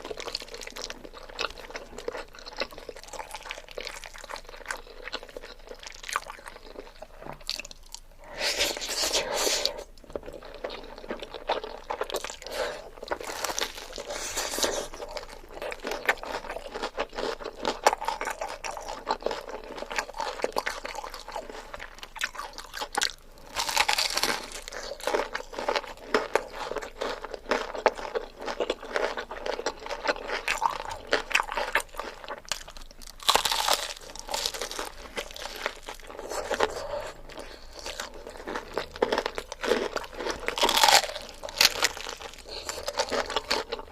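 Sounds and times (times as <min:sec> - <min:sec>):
person chewing crunchy noodles: 0:00.0 - 0:43.9.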